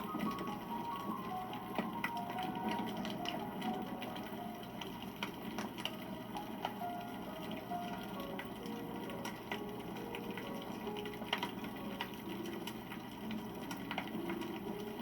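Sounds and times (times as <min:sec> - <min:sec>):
soft background music: 0:00.0 - 0:15.0
wood fire crackling: 0:00.0 - 0:15.0.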